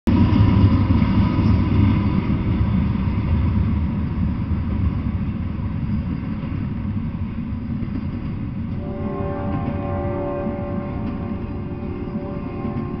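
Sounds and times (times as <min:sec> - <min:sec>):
freight train wheels rumbling: 0:00.1 - 0:13.0.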